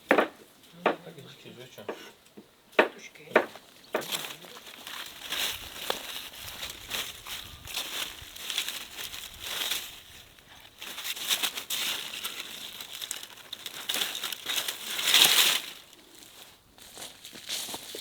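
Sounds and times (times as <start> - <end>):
crinkling and rustling: 3.4 - 18.0.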